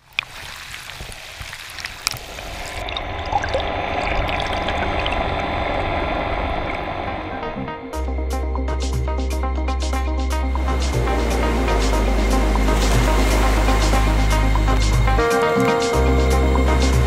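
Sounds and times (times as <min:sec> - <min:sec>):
underwater seawater rush and gurgle: 0:00.0 - 0:07.9, 0:10.6 - 0:17.0.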